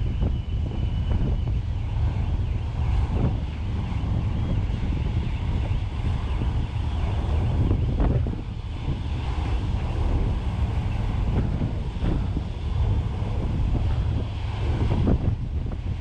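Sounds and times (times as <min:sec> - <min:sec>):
stormy sea rushing: 0:00.0 - 0:16.0
strong wind buffeting microphone: 0:00.0 - 0:16.0.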